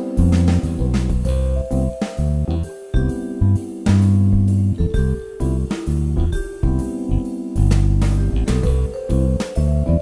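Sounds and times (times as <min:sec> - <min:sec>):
instrumental music with guitar and drums: 0:00.0 - 0:10.0.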